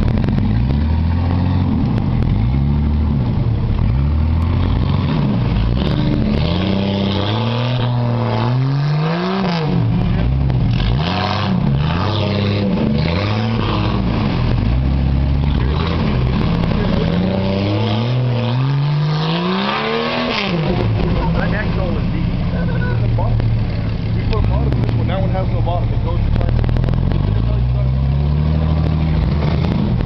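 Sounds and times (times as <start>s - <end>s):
engine revving: 0.0s - 30.0s.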